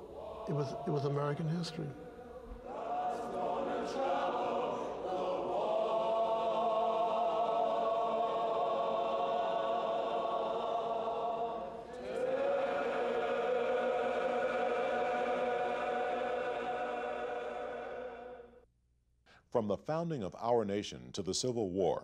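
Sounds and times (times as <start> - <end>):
choir singing long held notes: 0.0 - 18.6.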